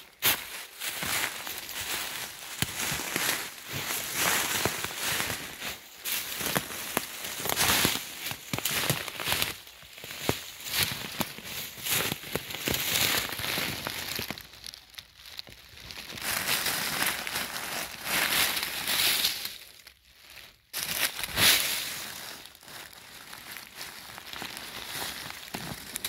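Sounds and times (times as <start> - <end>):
dry leaves rustling and crackling: 0.0 - 26.0.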